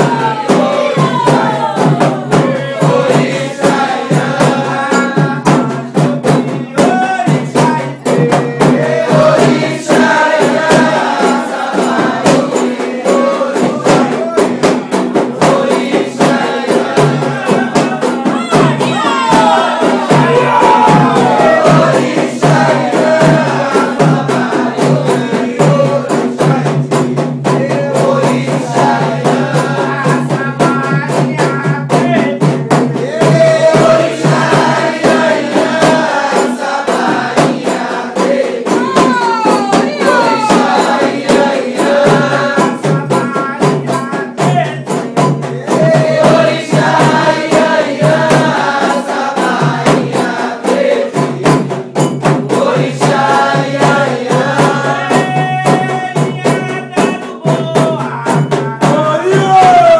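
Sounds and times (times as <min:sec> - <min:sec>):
hand percussion strokes: 0:00.0 - 0:59.9
voices singing together: 0:00.0 - 0:59.9.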